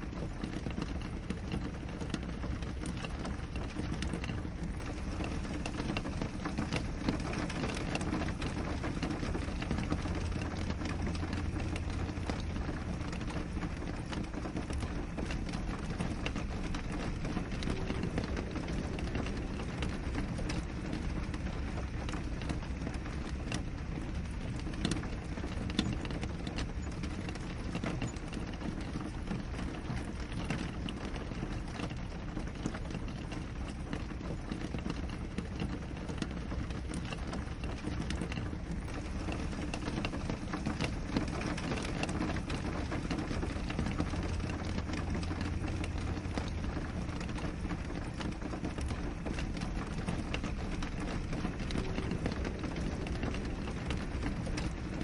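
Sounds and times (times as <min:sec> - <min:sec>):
rain pattering on a window: 0:00.0 - 0:55.0.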